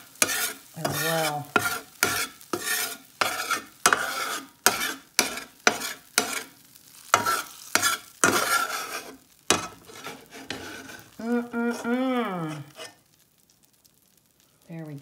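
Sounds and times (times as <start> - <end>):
metal spatula scraping pan: 0.0 - 13.0
hot fat sizzling: 0.0 - 15.0.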